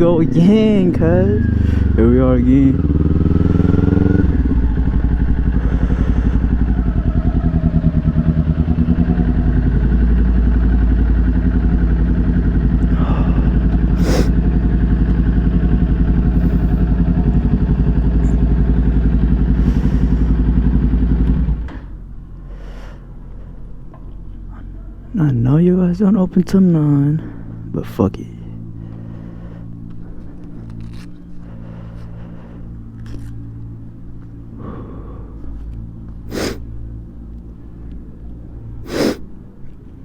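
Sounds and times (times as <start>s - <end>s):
motorcycle engine running: 0.0s - 38.8s.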